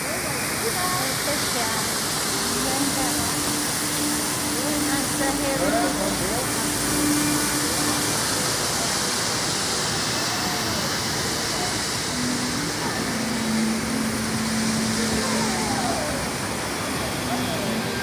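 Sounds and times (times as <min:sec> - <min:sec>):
faint distant voices: 0:00.0 - 0:18.0.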